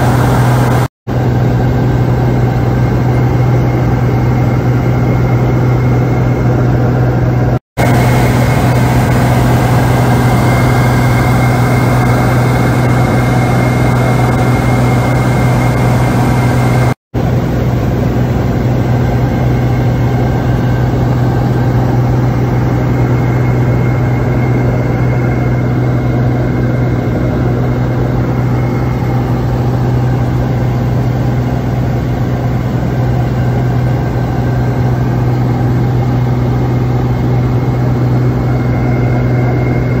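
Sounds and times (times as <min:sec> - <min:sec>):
propeller aircraft engine drone: 0:00.0 - 0:40.0.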